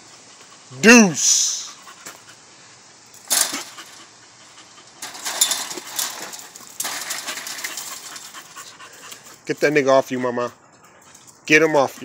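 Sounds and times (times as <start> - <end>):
dogs panting: 0.0 - 0.8, 1.4 - 12.0.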